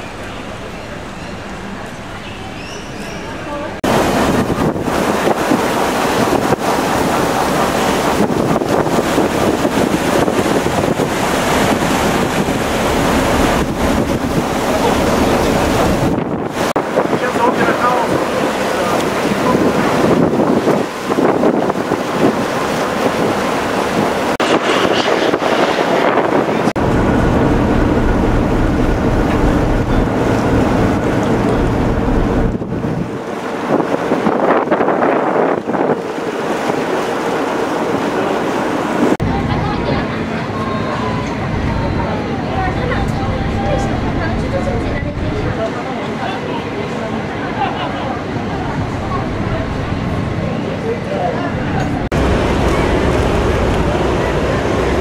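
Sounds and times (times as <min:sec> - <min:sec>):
boat engine drone: 0:00.0 - 0:55.0
water washing along hull: 0:02.6 - 0:55.0
wind buffeting microphone: 0:03.6 - 0:45.8, 0:48.2 - 0:55.0.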